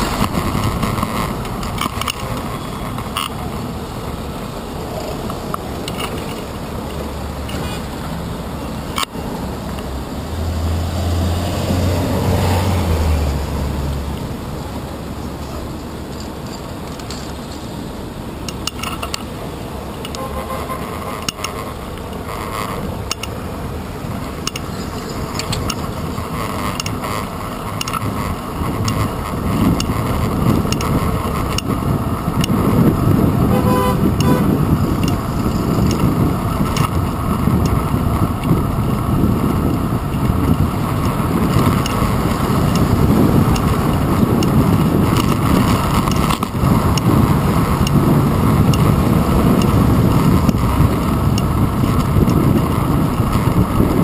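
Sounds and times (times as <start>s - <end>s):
city street traffic: 0.0s - 54.0s
wind and road noise: 0.0s - 54.0s.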